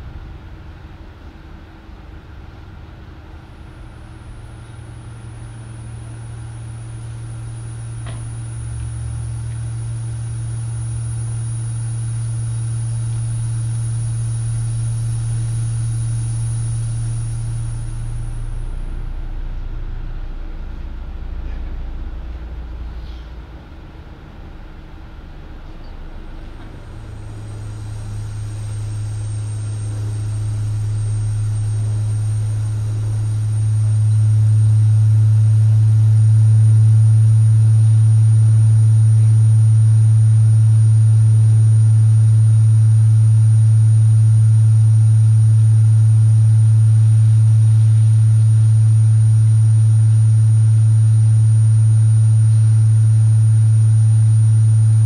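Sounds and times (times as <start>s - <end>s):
low electronic sine hum: 0.0s - 55.0s
faint higher sine tones: 3.4s - 55.0s.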